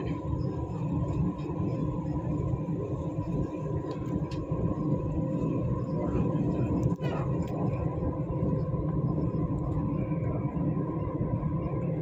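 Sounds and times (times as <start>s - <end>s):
thin steady whine: 0.0s - 12.0s
train rumble: 0.0s - 12.0s.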